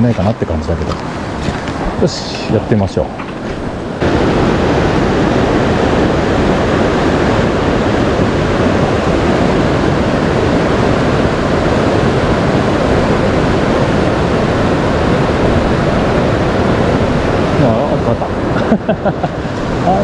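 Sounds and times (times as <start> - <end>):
river water rushing: 3.4 - 20.0.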